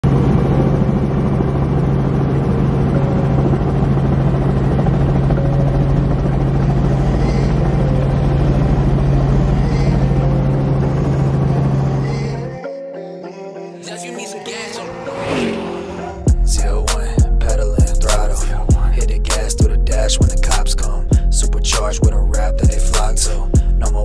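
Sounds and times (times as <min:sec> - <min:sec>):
helicopter rotor drone: 0:00.0 - 0:24.0.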